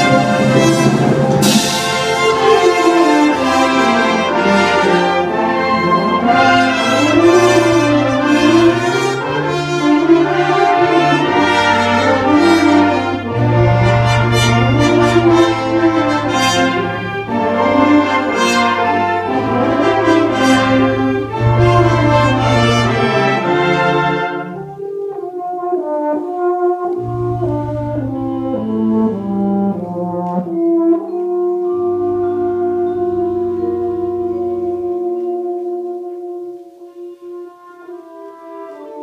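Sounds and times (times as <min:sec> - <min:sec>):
euphonium solo: 0:00.0 - 0:25.4, 0:26.6 - 0:39.0
concert wind band playing: 0:00.0 - 0:39.0.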